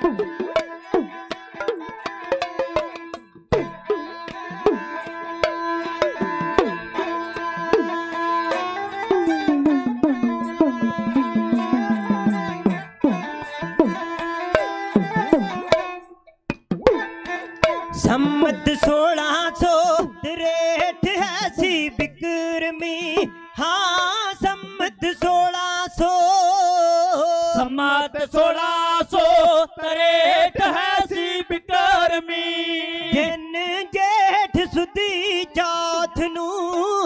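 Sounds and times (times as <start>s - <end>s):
bowed sarangi: 0.0s - 37.0s.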